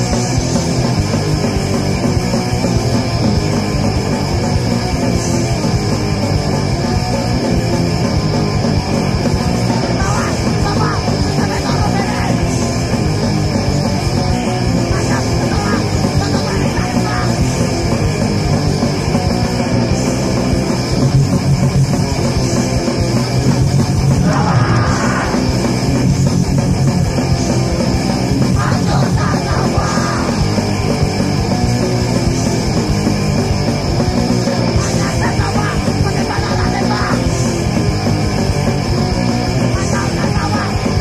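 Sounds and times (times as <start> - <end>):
punk rock band playing: 0.0 - 41.0.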